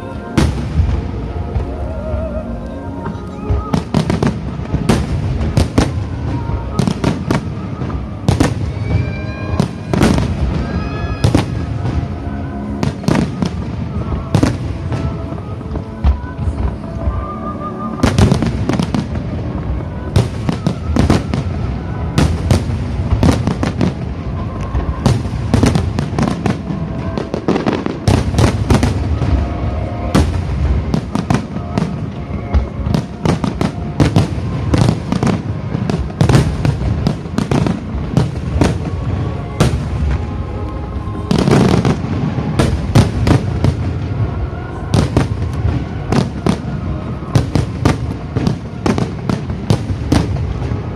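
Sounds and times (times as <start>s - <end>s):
fireworks booms and crackles: 0.0s - 50.9s.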